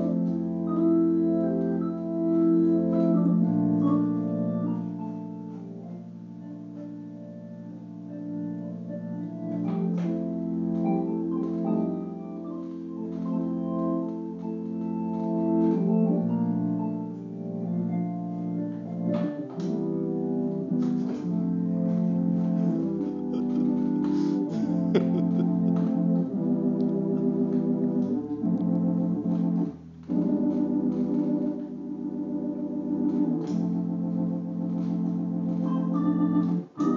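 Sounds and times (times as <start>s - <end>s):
organ playing chords: 0.0s - 36.9s.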